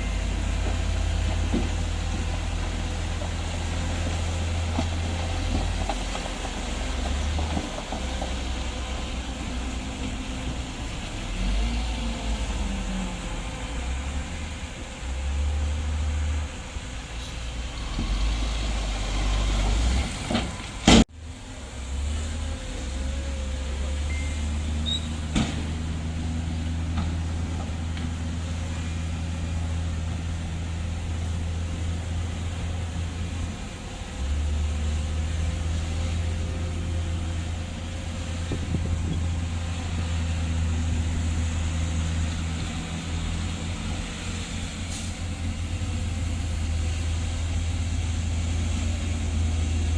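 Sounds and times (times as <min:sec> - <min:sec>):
heavy diesel engine droning: 0:00.0 - 0:49.9.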